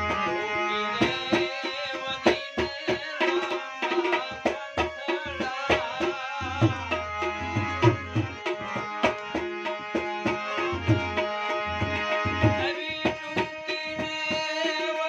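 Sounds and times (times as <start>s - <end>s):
harmonium melody: 0.0s - 15.0s
tabla playing a rhythm: 0.0s - 15.0s.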